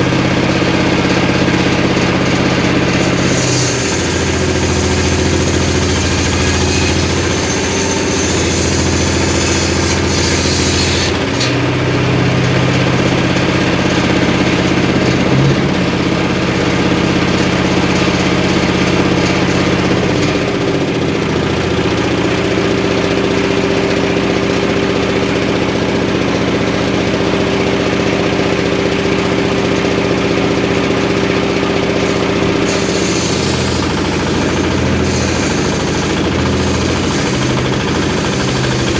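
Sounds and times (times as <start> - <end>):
engine running a circular saw: 0.0 - 38.9.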